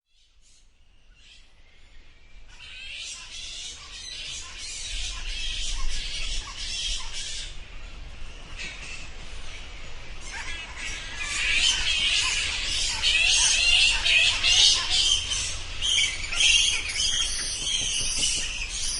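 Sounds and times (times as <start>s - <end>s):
bats squeaking and chittering: 2.5s - 7.6s, 8.4s - 18.9s.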